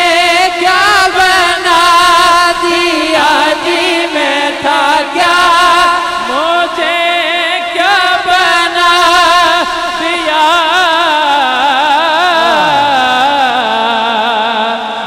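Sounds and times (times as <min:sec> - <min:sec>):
man singing through a microphone: 0:00.0 - 0:15.0.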